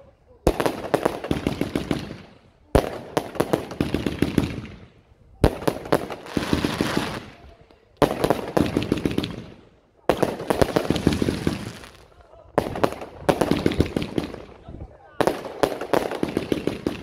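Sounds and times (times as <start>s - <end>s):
firework bangs: 0.4s - 7.4s, 8.0s - 17.0s
firework crackling pops: 0.5s - 17.0s.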